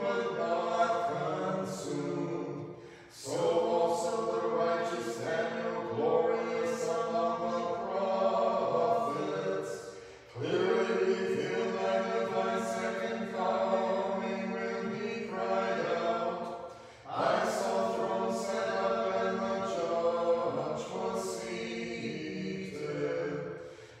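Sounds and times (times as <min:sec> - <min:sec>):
unaccompanied choir chanting: 0:00.0 - 0:24.0.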